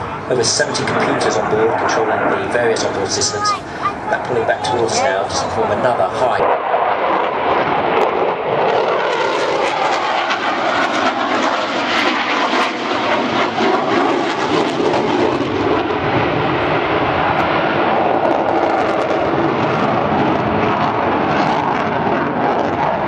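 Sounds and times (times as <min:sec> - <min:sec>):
loud jet engine rush: 0:00.0 - 0:23.0.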